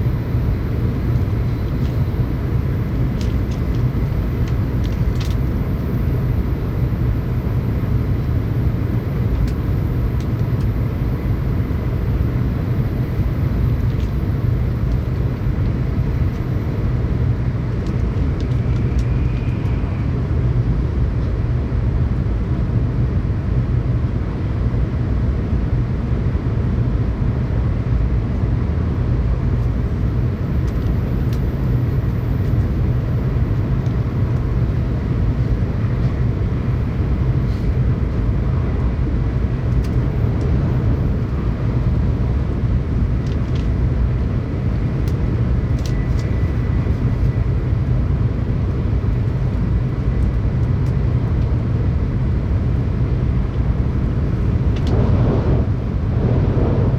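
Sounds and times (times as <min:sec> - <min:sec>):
train running rumble: 0:00.0 - 0:56.9.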